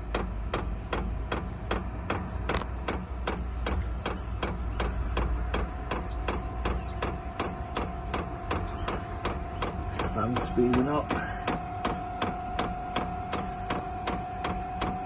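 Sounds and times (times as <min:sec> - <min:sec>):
blower fan humming: 0:00.0 - 0:15.0
fuel pump ticking: 0:00.0 - 0:15.0
fan whine: 0:00.9 - 0:15.0.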